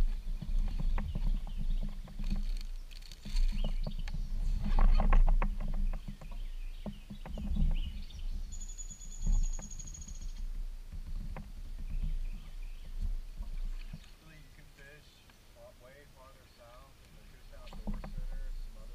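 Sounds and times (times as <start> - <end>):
gear knocking against kayak hull: 0.0 - 14.0, 17.5 - 18.9.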